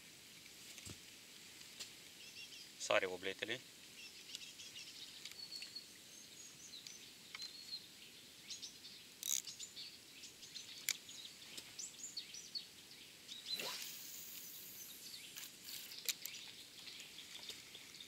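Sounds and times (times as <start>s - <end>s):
faint outdoor hiss: 0.0s - 18.0s
small birds chirping: 2.1s - 18.0s.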